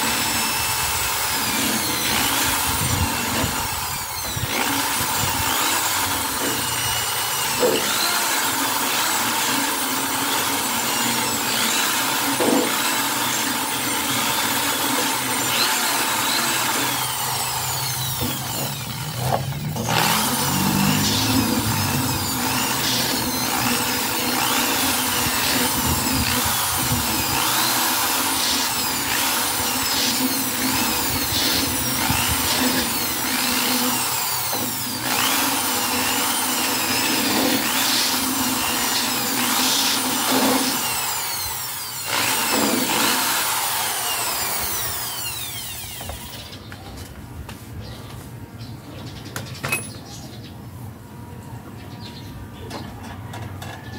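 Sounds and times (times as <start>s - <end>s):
electric drill on sheet metal: 0.0s - 46.6s.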